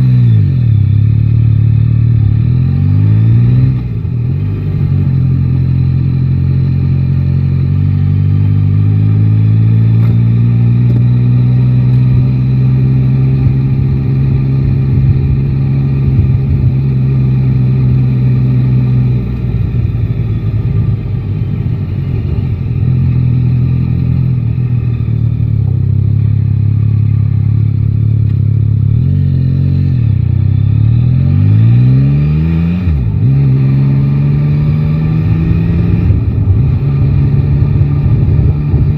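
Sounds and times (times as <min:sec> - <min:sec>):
engine revving: 0:00.0 - 0:38.9
motorcycle engine cruising: 0:00.0 - 0:38.9
road and wind noise: 0:00.0 - 0:38.9.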